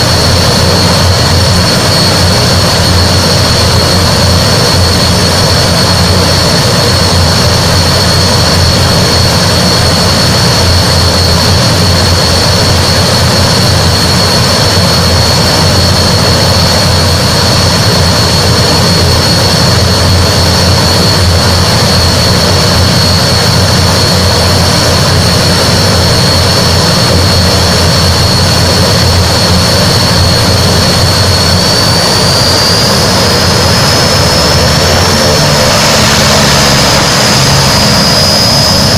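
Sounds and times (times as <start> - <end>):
turboprop engines running: 0.0 - 38.9.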